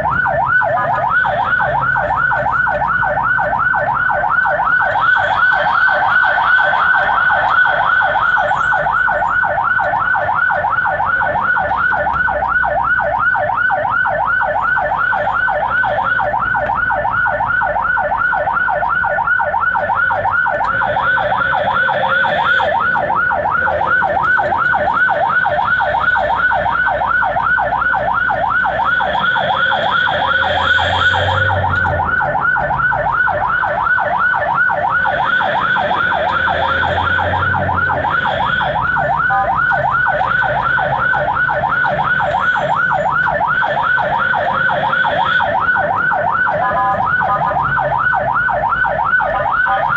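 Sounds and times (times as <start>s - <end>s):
ambulance siren yelping: 0.0s - 49.9s.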